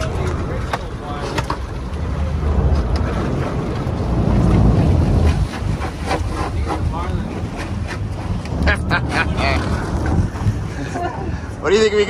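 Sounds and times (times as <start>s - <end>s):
boat engine rumble: 0.0s - 12.0s
wind buffeting microphone: 0.0s - 12.0s.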